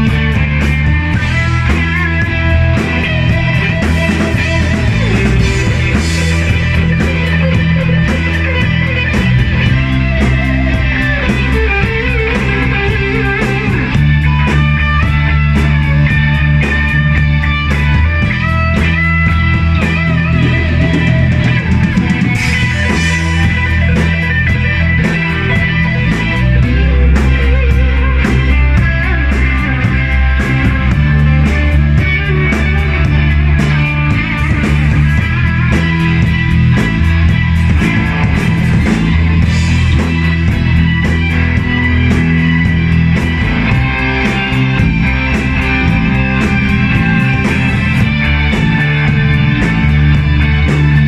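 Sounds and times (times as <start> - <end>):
electric bass: 0.0 - 51.0
electric guitars through amplifiers: 0.0 - 51.0
keyboard: 0.0 - 51.0.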